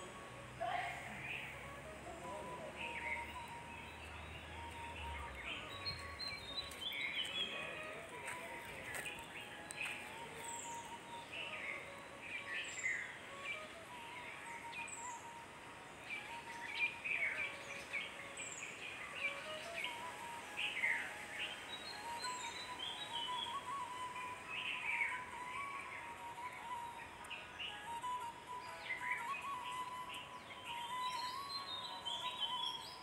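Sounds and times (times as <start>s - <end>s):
wild birds chirping: 0.0s - 33.0s.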